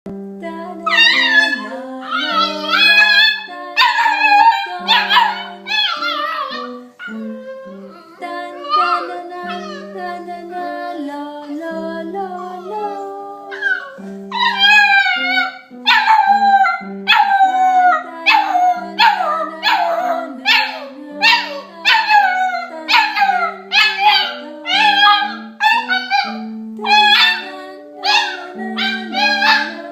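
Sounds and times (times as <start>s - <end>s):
piano playing: 0.1s - 29.9s
puppy howling: 0.8s - 10.0s, 12.3s - 29.9s.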